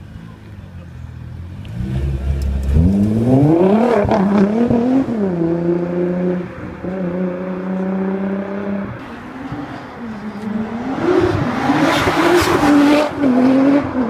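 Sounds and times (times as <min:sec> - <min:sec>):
car engine accelerating hard: 0:01.5 - 0:14.0.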